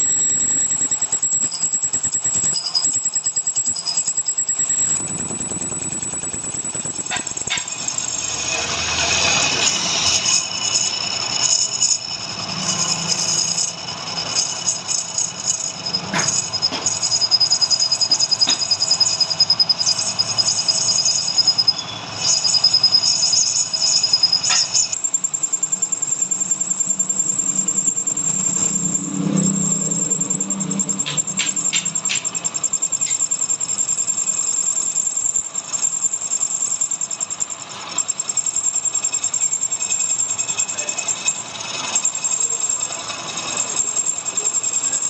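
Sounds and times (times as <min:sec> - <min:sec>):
lathe cutting metal squealing: 0:00.0 - 0:45.0.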